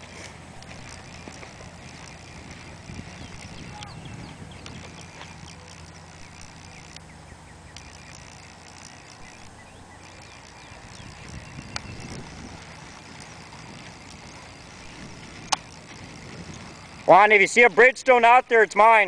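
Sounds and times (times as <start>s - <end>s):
faint low hum: 0.0s - 17.9s
bird chirps: 0.6s - 17.2s.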